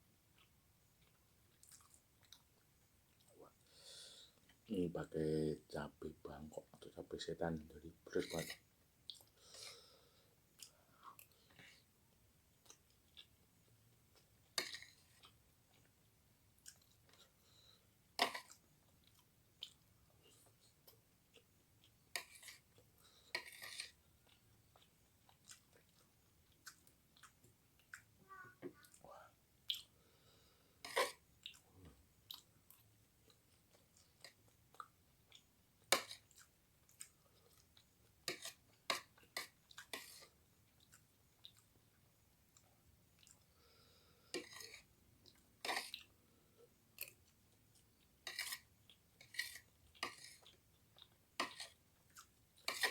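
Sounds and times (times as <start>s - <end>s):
close-up chewing: 0.3s - 3.4s, 10.5s - 28.2s, 29.6s - 52.9s.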